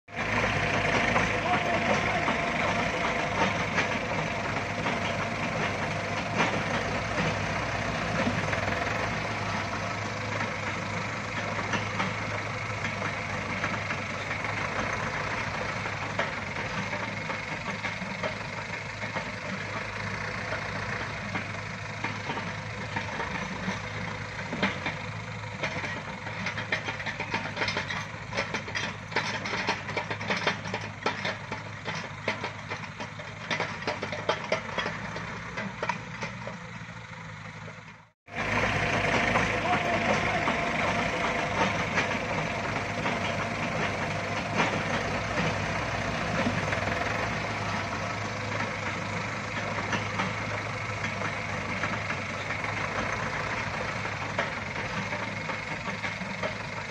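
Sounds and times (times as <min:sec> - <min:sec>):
diesel engines droning: 0:00.0 - 0:56.9
sharp clicking knocks: 0:00.4 - 0:36.6, 0:38.9 - 0:56.9.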